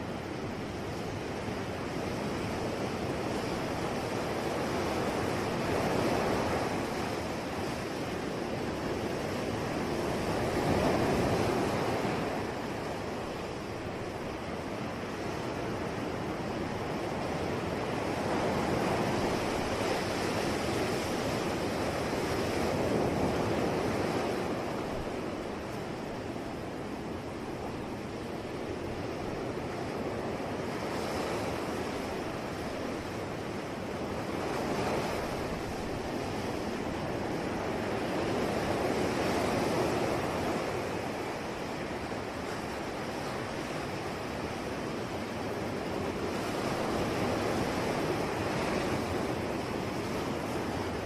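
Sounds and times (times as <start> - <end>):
sea waves washing onto shore: 0.0 - 51.0.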